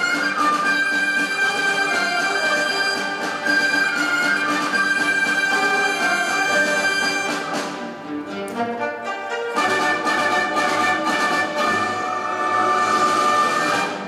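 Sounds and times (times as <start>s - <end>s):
traditional orchestra playing: 0.0s - 14.0s.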